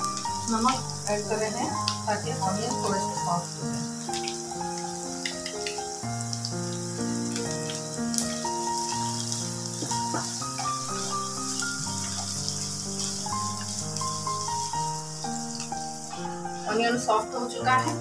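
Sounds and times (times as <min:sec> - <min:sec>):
onions sizzling in oil: 0:00.0 - 0:18.0
slow background music: 0:00.0 - 0:18.0.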